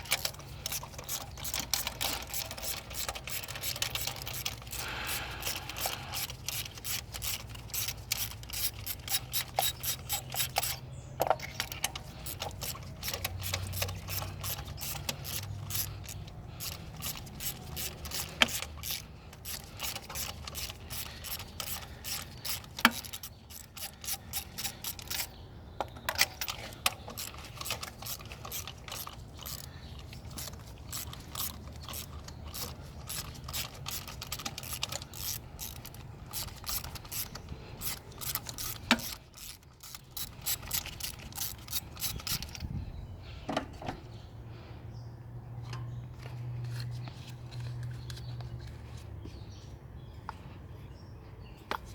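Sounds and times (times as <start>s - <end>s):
ratchet wrench clicking: 0.0s - 25.4s, 26.1s - 42.7s.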